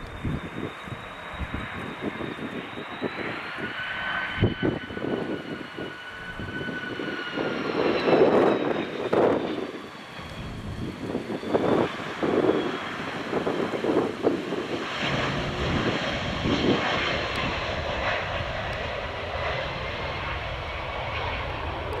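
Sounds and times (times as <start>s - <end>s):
jet engines of landing plane: 0.0s - 22.0s.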